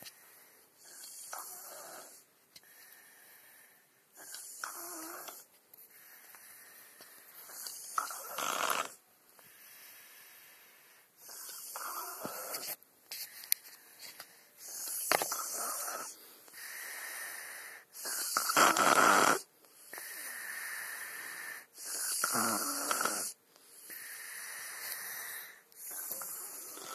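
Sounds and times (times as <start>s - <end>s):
snoring breaths: 0.0s - 26.9s.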